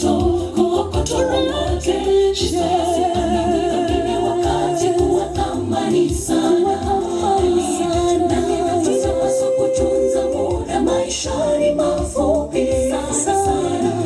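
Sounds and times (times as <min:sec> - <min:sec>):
group singing a cappella gospel: 0:00.0 - 0:14.0.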